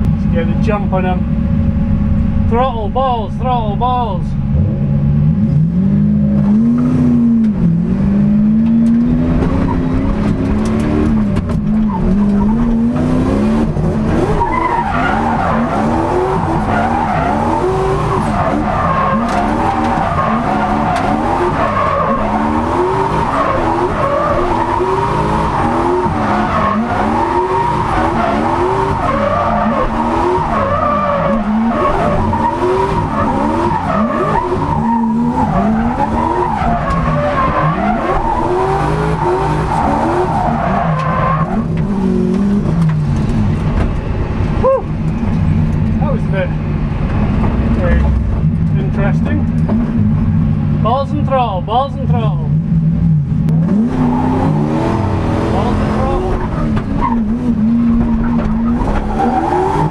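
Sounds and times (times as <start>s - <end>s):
car engine revving: 0.0s - 59.9s
tyres skidding: 4.4s - 59.9s.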